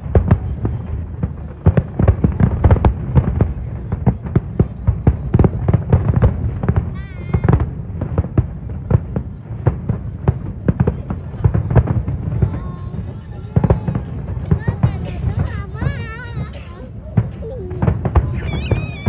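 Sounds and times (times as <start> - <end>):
fireworks booming and cracking: 0.0 - 19.0.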